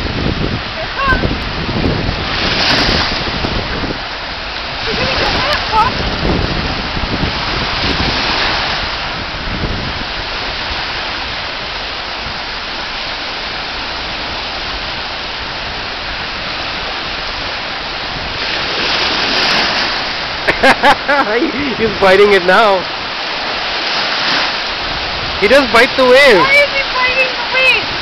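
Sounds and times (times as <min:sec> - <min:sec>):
waves washing on a beach: 0:00.0 - 0:28.0
wind rumbling on microphone: 0:00.0 - 0:28.0.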